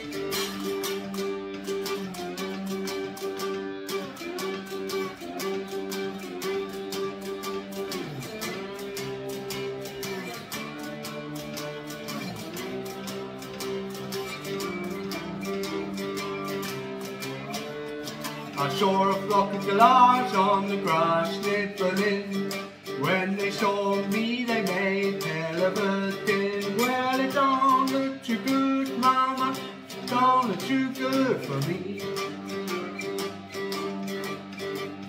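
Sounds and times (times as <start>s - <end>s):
cigar box guitar playing blues: 0.0s - 35.0s.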